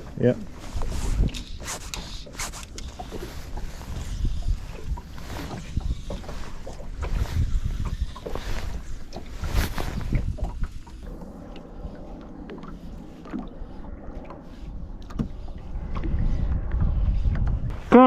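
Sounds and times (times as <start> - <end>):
water lapping against boat hull: 0.0 - 17.7
wind buffeting microphone: 0.0 - 18.0.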